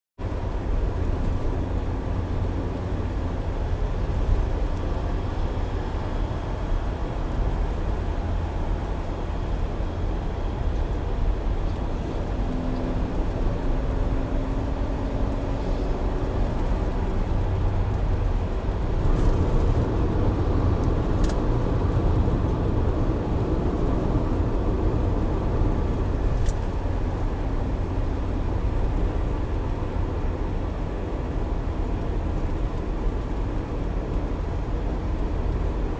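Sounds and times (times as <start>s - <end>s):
car engine and road noise: 0.2s - 35.9s.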